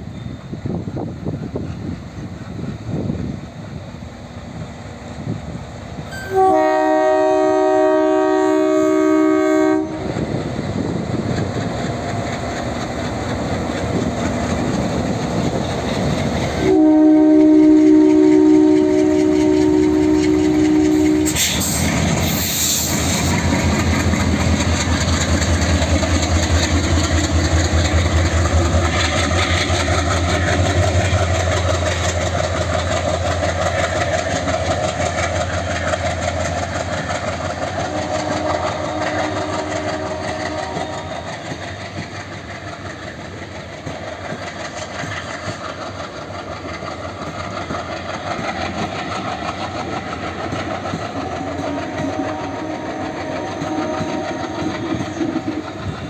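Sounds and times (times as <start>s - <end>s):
diesel locomotives chugging: 0.0s - 56.0s
passenger coaches rolling on track: 0.0s - 56.0s.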